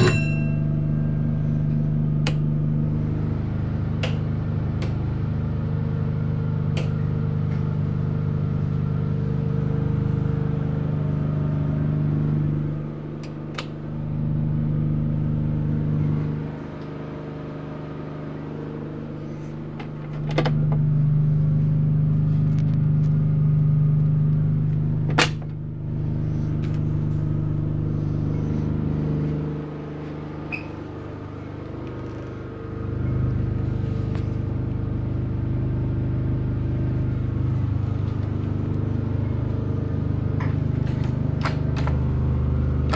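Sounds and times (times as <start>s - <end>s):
generator humming: 0.0s - 42.9s.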